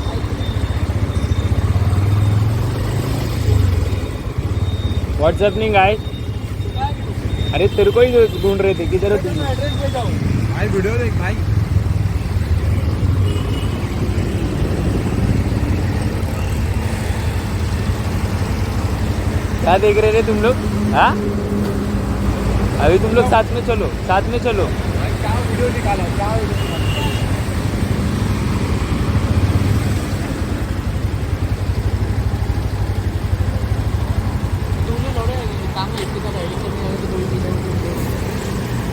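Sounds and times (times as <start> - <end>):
motorcycle engine and road rumble: 0.0 - 38.9.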